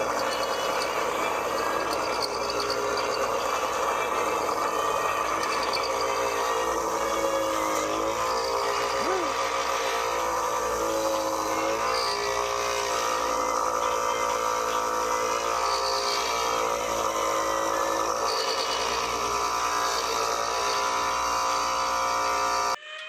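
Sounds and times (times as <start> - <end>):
power tool running: 0.0 - 22.8.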